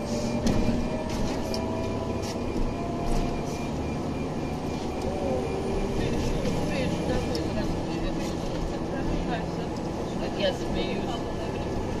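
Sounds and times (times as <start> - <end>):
bus engine whine: 0.0 - 12.0
low road rumble: 0.0 - 12.0.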